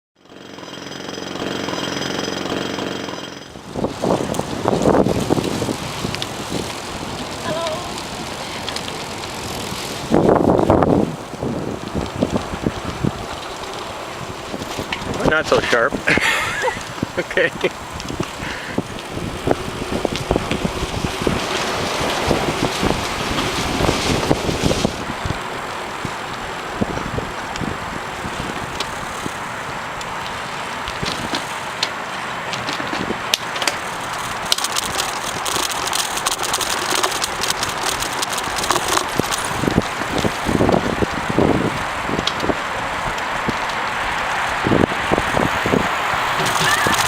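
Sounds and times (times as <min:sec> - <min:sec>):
bicycle rattling and knocking: 0:00.2 - 0:47.0
engine humming: 0:00.2 - 0:47.0
tyres on pavement: 0:00.2 - 0:47.0
wind buffeting microphone: 0:02.5 - 0:47.0.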